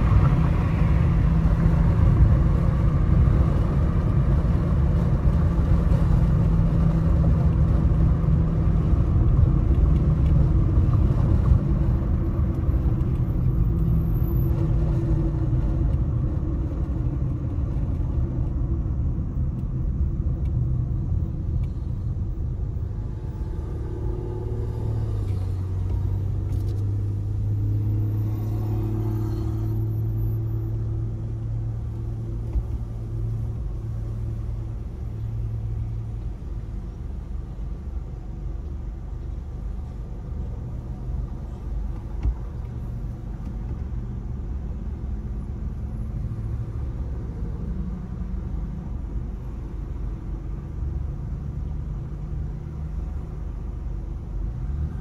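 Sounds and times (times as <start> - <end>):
car engine rumbling and idling: 0.0 - 55.0.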